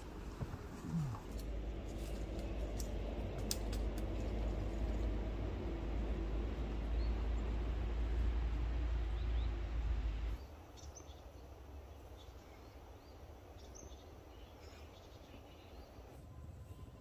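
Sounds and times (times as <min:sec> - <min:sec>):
low rumbling hiss: 0:00.0 - 0:17.0.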